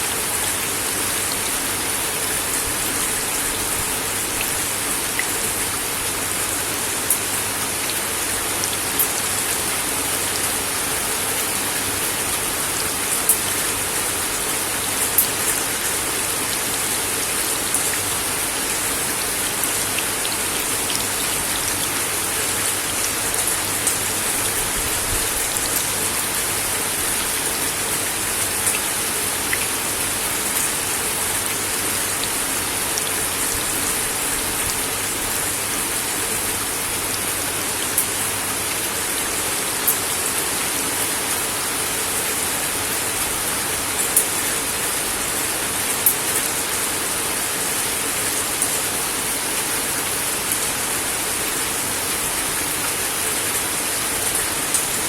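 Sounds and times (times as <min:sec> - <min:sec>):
rain on a wooden deck: 0:00.0 - 0:55.0.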